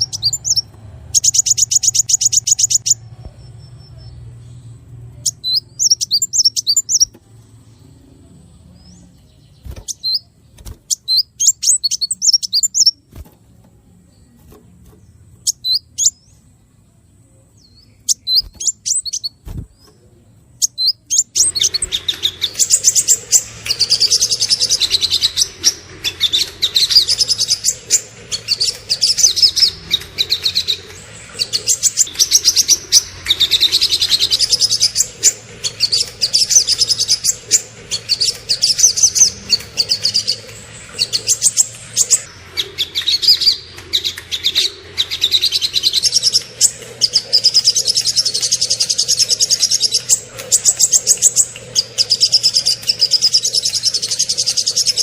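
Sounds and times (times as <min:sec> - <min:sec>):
songbirds singing rapid high notes: 0:00.0 - 0:55.0.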